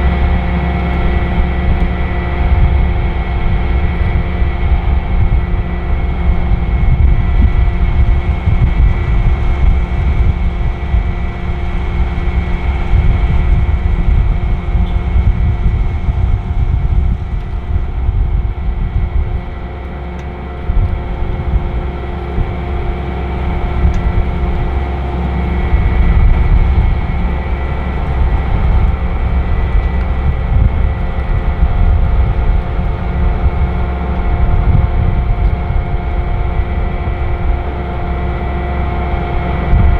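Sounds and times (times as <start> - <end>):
combine harvester engine drone: 0.0 - 39.9
machinery whining tones: 0.0 - 39.9.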